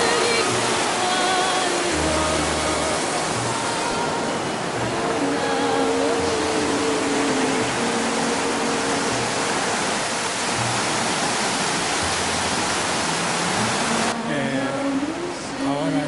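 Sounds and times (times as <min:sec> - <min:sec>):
stream rushing over boulders: 0:00.0 - 0:16.0.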